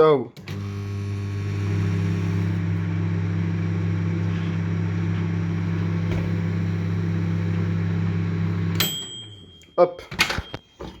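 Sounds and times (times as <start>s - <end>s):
microwave oven humming: 0.4s - 9.3s.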